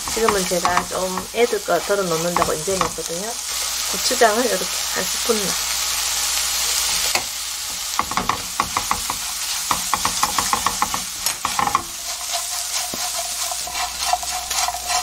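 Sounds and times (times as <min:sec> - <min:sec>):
spatula scraping pan: 0:00.0 - 0:04.0, 0:06.6 - 0:15.0
fish sizzling in oil: 0:00.0 - 0:15.0.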